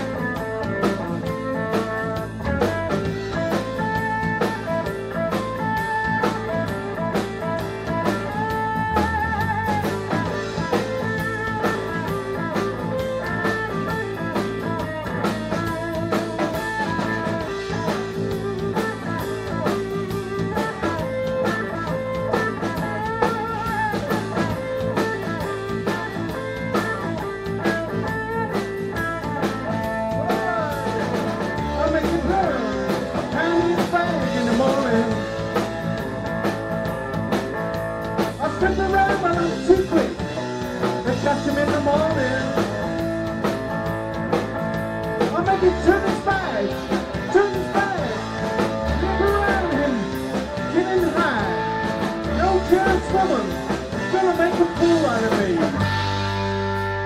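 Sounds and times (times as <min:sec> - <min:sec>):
blues band playing: 0:00.0 - 0:57.0
electric guitar bending notes: 0:00.0 - 0:57.0.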